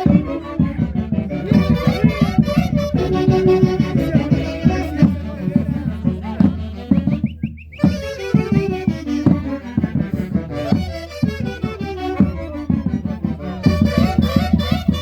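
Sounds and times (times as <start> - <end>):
folk orchestra playing festive music: 0.0 - 15.0.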